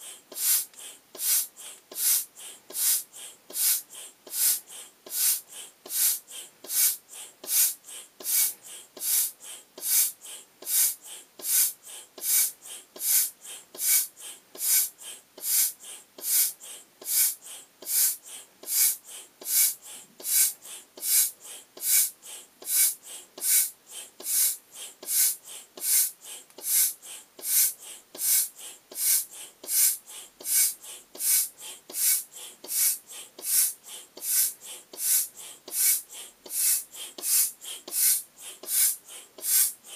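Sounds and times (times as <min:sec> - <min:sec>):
foot pump air hiss: 0:00.0 - 0:39.9.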